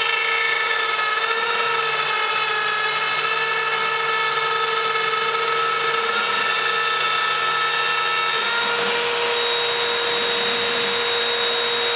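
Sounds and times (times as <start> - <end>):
router spindle whining: 0.0 - 11.9.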